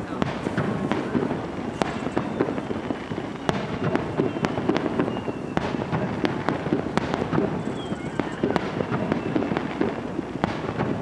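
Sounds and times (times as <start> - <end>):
faint firework whistles: 0.0 - 11.0
fireworks crackling: 0.0 - 11.0.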